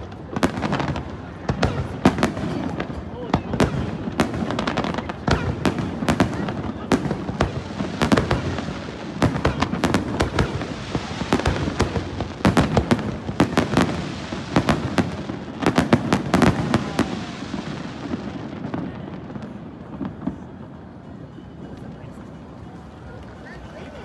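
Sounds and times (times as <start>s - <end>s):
fireworks bangs and crackles: 0.0s - 22.1s.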